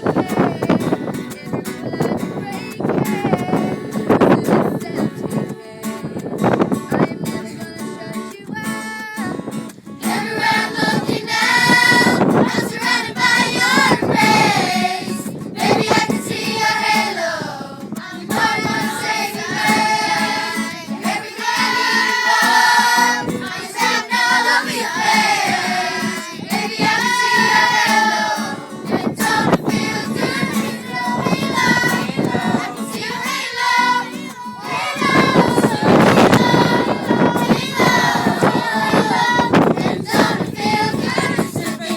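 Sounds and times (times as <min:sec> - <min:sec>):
children's choir singing: 0:00.0 - 0:07.5, 0:10.0 - 0:41.9.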